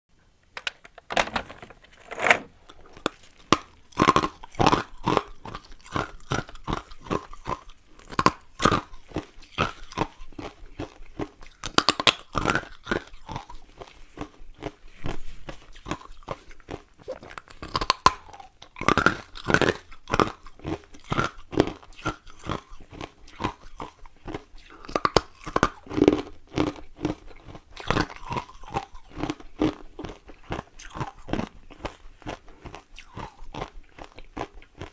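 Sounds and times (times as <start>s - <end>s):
ice cubes being chewed: 2.6s - 34.9s.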